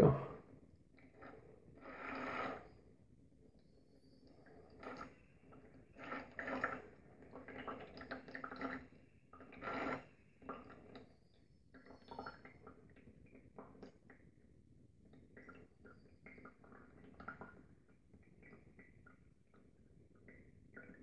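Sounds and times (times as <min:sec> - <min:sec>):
water trickling through a funnel: 0:00.4 - 0:21.0.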